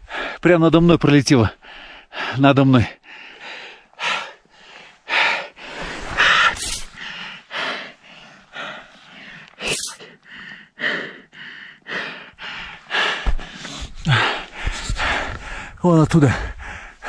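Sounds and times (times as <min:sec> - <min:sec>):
man breathing heavily: 0:00.0 - 0:00.5, 0:01.4 - 0:17.0.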